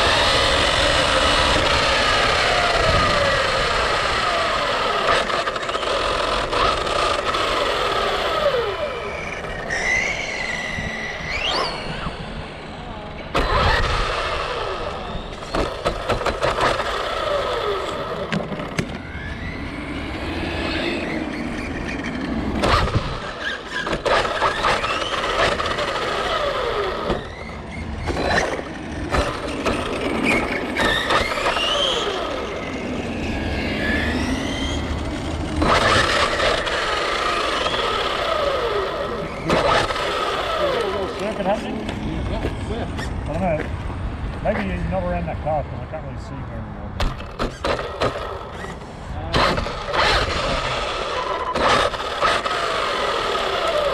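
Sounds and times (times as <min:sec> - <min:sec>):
radio-controlled car motors whining: 0:00.0 - 0:45.1, 0:47.0 - 0:53.9.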